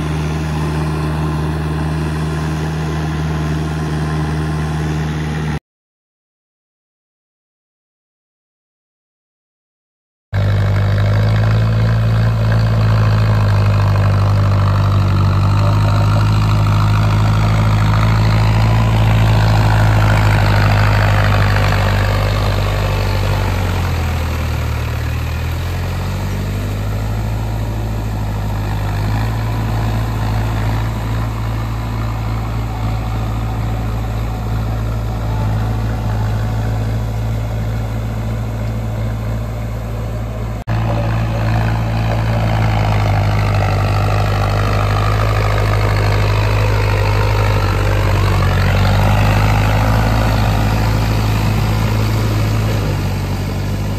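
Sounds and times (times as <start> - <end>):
tractor diesel engine running: 0.0 - 5.6, 10.4 - 53.9.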